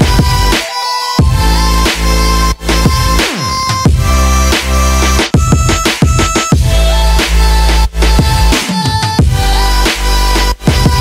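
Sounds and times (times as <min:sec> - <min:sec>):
bass-heavy music with drum beat: 0:00.0 - 0:11.0.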